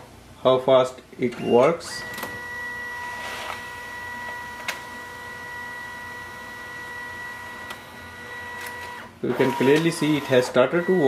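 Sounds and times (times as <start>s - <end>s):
scanner motor whine: 1.4s - 11.0s.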